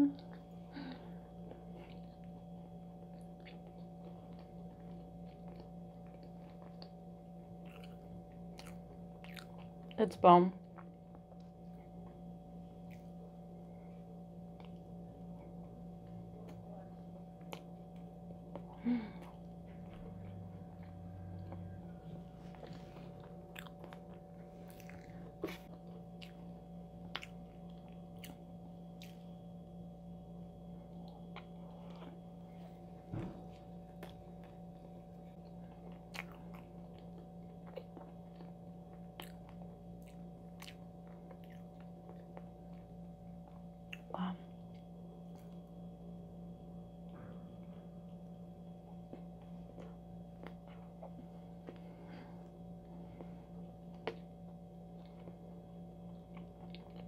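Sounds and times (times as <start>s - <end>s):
steady low hum: 0.0s - 57.0s
chewing with mouth clicks: 1.4s - 10.0s, 10.6s - 13.3s, 14.4s - 29.5s, 33.4s - 45.8s, 47.0s - 57.0s.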